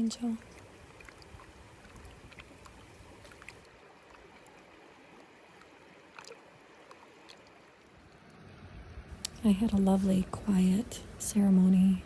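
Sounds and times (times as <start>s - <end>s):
faint stream running water: 0.0s - 12.0s.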